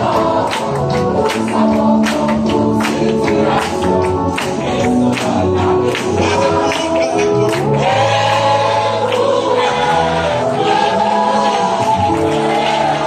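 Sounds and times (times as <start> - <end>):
congregation singing worship song: 0.0 - 13.0
musical accompaniment: 0.0 - 13.0.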